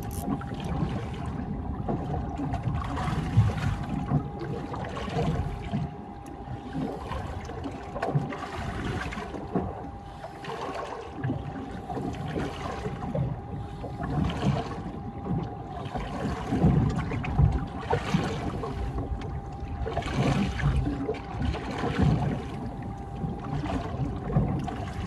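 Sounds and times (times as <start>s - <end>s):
faint steady hum: 0.0s - 25.0s
water lapping against boat hull: 0.0s - 25.0s.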